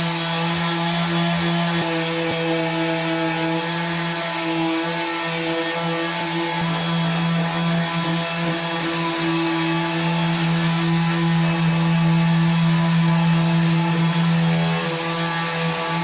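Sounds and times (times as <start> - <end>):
electric sander running: 0.0 - 16.0.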